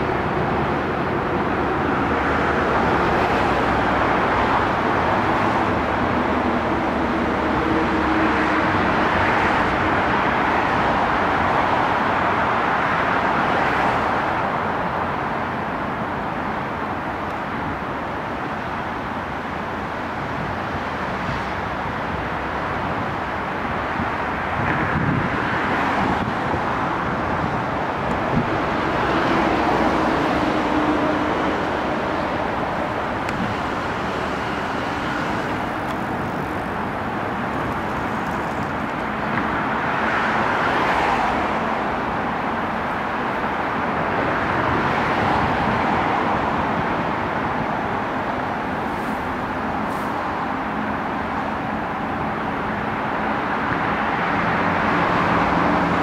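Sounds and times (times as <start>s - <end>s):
distant city traffic roar: 0.0s - 56.0s.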